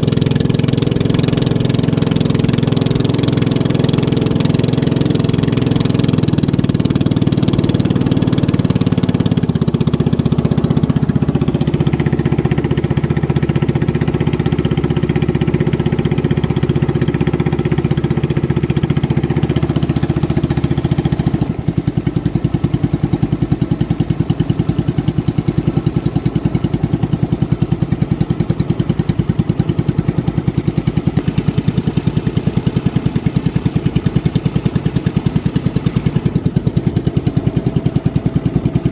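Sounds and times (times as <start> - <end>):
racing boat engine drone: 0.0 - 38.9.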